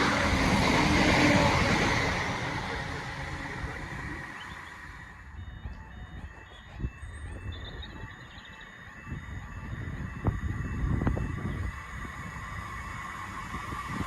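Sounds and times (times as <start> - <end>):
passing train rumble: 0.0 - 14.0
two-tone crossing warning beeps: 0.1 - 14.0.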